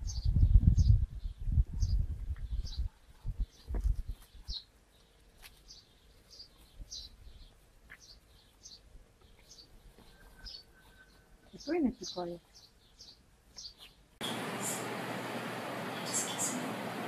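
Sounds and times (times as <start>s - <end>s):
bird chirping: 0.0s - 14.9s, 15.8s - 16.8s.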